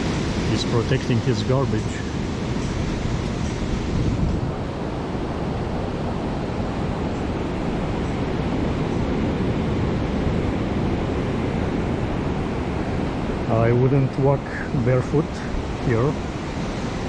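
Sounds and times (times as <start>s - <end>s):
ocean surf on beach: 0.0s - 17.0s
wind on microphone: 0.0s - 17.0s.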